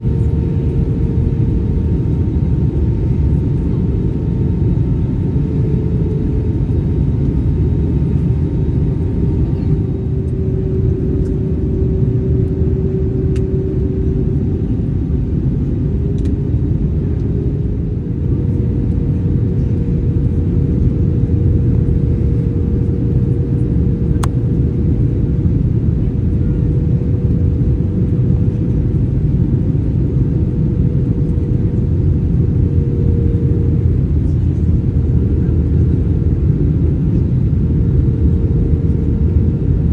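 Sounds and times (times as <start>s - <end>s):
faint engine hum: 0.0s - 39.9s
rumble of engines and airflow: 0.0s - 39.9s.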